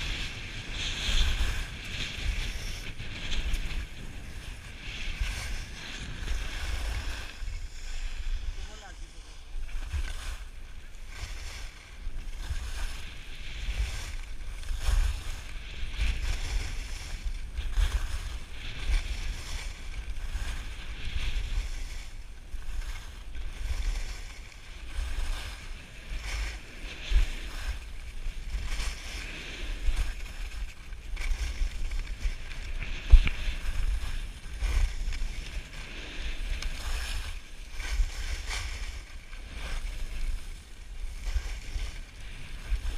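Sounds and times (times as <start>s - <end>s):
skis scraping over snow: 0.0s - 42.9s
wind rumbling on microphone: 0.0s - 42.9s.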